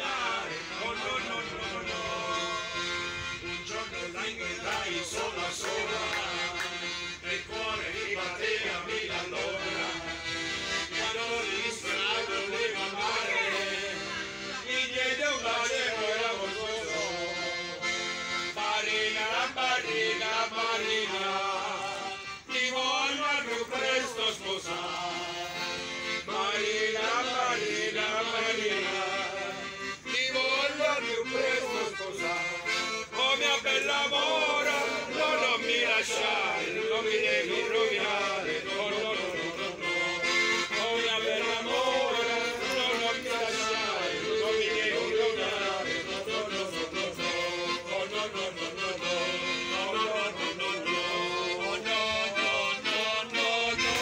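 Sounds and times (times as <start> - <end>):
accordion playing folk tune: 0.0 - 54.0.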